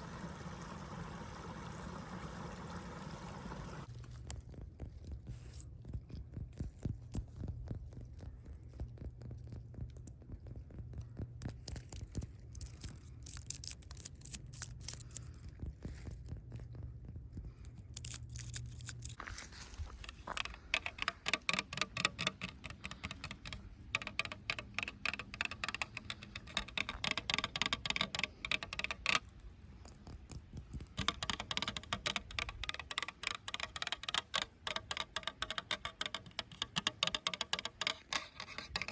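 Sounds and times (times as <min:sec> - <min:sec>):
fingernails tapping and scratching: 0:04.2 - 0:38.9.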